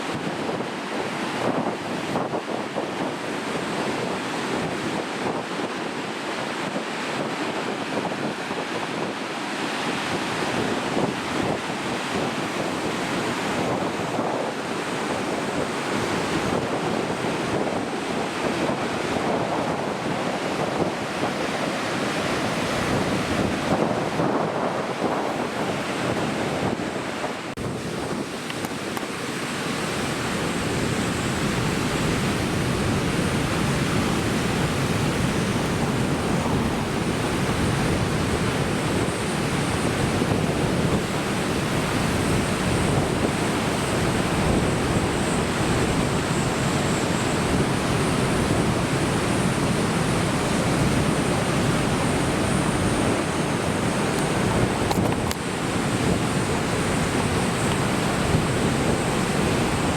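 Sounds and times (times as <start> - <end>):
ocean waves breaking: 0.0 - 59.9
wind buffeting microphone: 0.0 - 59.9.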